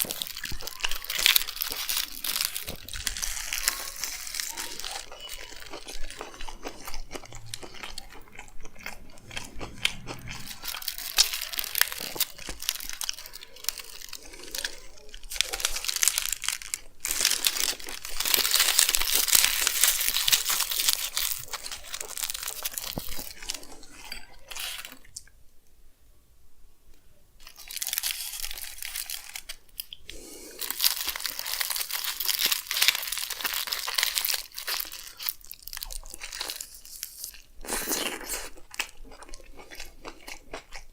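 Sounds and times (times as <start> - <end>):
wrapper crinkling: 0.0 - 25.0, 27.4 - 38.8
eating and crunchy chewing: 0.0 - 25.4, 27.4 - 40.9.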